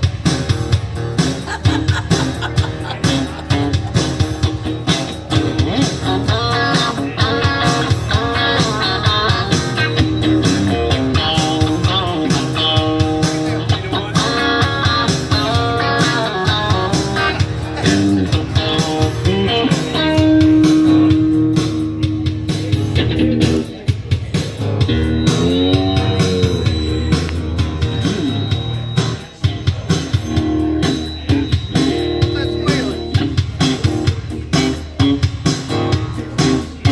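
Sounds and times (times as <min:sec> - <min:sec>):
strummed rhythm guitar: 0:00.0 - 0:36.9
lead guitar solo: 0:02.1 - 0:22.3, 0:24.6 - 0:28.9, 0:30.4 - 0:36.9.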